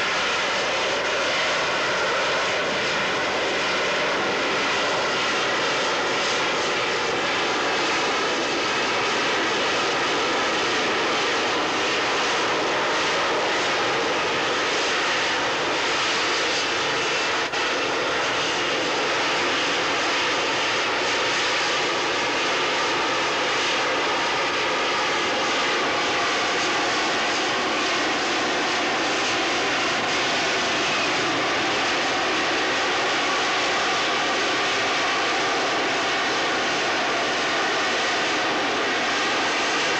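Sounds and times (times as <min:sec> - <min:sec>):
jet engine hovering whine: 0:00.0 - 0:39.9.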